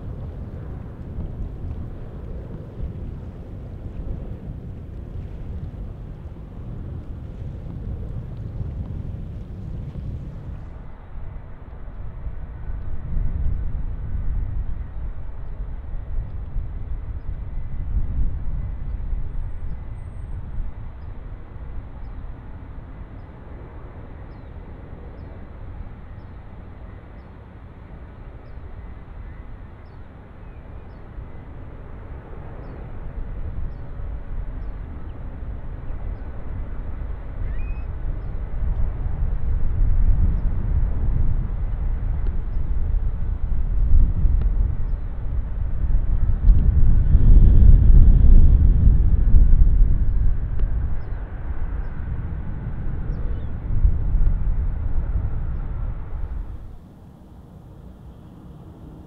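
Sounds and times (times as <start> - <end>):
jet airliner rumble: 0.0 - 59.0.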